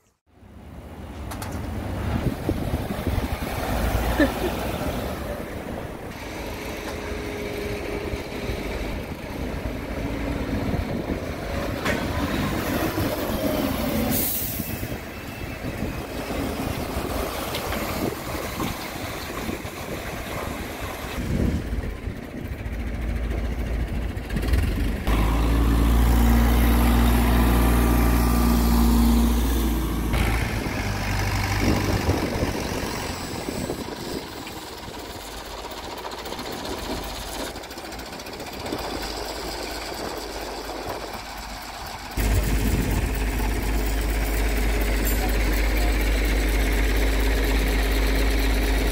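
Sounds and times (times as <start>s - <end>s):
truck engine running: 1.3s - 48.9s.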